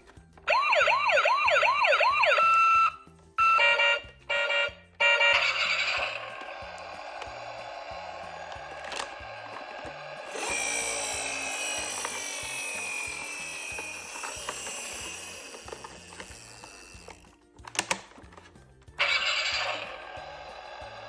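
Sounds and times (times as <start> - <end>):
toy car mechanism whining: 0.4 - 21.0.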